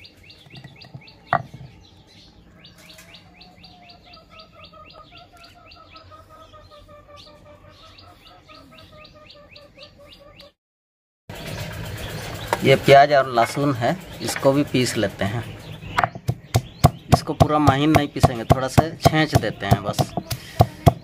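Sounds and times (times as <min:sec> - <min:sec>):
small birds chirping: 0:00.0 - 0:10.6, 0:11.3 - 0:21.0.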